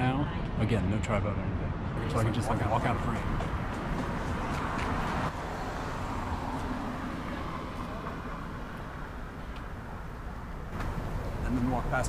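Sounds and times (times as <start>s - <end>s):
car driving past: 2.0s - 12.0s.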